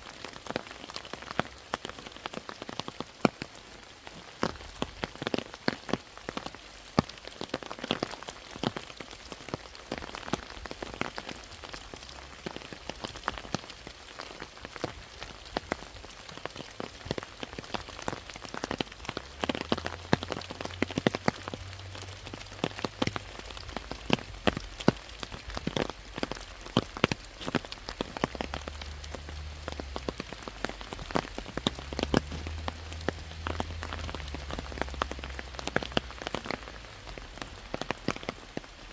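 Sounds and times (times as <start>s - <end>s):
large raindrops ticking: 0.0s - 38.9s
rain pattering: 0.0s - 38.9s.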